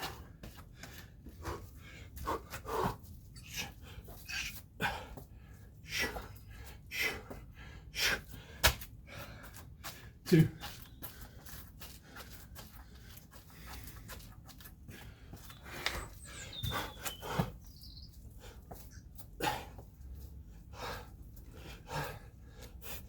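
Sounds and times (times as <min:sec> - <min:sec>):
man panting hard: 0:00.0 - 0:17.6, 0:18.2 - 0:23.0.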